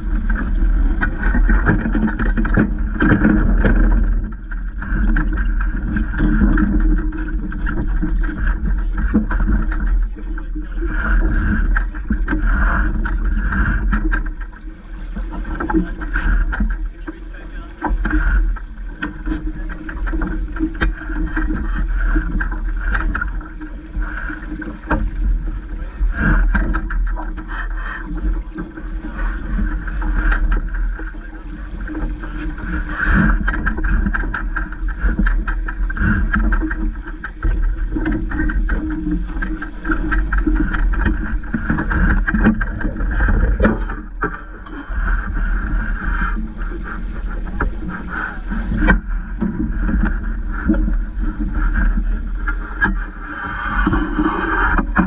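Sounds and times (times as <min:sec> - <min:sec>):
water splashing against hull: 0:00.0 - 0:55.0
wind buffeting microphone: 0:00.0 - 0:55.0.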